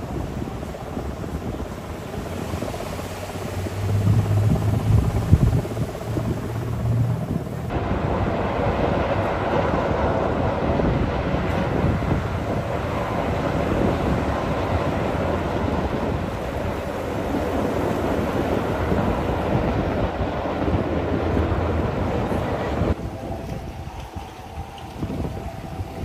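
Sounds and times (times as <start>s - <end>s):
helicopters droning overhead: 0.0s - 26.0s.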